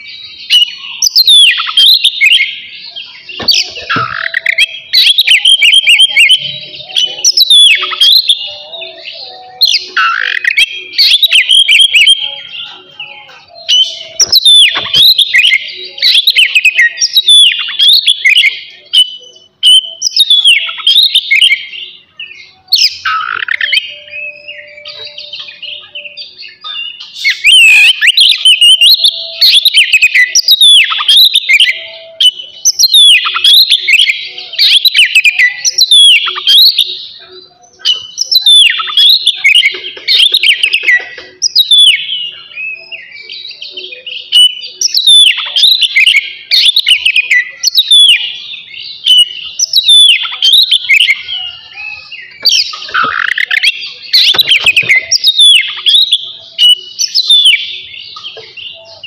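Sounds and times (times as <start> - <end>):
bird singing whistled phrases: 0.0 - 59.0.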